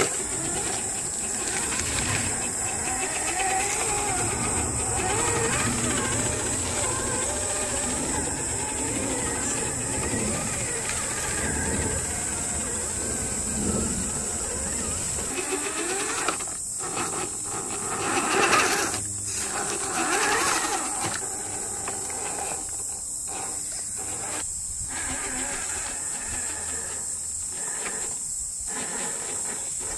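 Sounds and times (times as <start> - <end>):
electric motor whining: 0.0 - 29.9
steady high hiss: 0.0 - 29.9.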